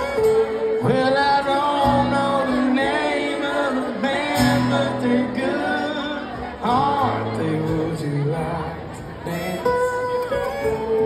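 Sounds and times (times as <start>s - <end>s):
fiddle melody: 0.0s - 7.4s, 9.2s - 11.0s
acoustic guitars: 0.0s - 11.0s
country band playing: 0.0s - 11.0s.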